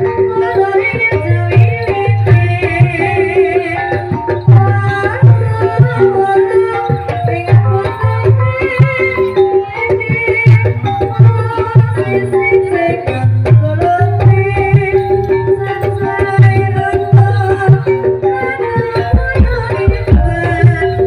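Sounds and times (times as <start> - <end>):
hand drum strokes: 0.0 - 21.0.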